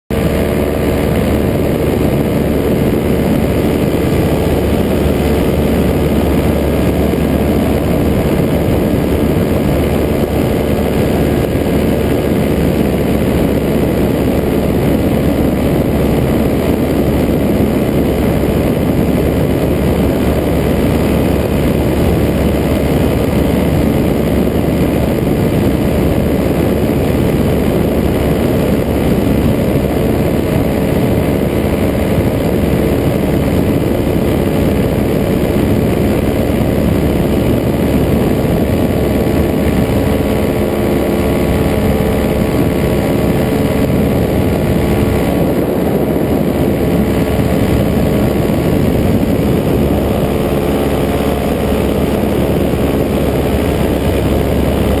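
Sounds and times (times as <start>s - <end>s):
wind rush on microphone: 0.0s - 55.0s
paramotor engine and propeller: 0.1s - 55.0s.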